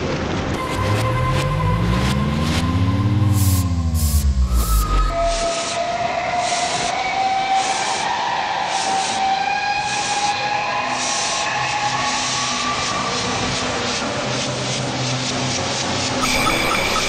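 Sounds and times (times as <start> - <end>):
ride car whining on track: 0.0 - 17.0.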